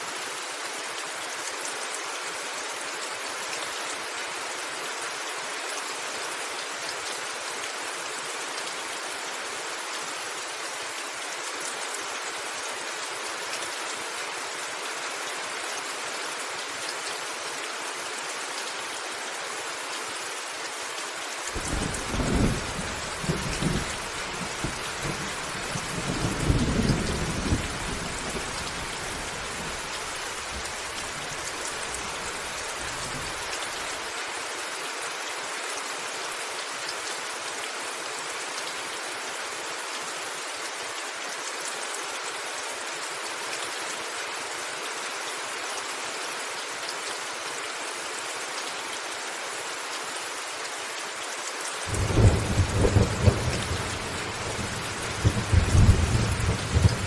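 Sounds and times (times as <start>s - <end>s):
rain pattering on a roof: 0.0s - 57.0s.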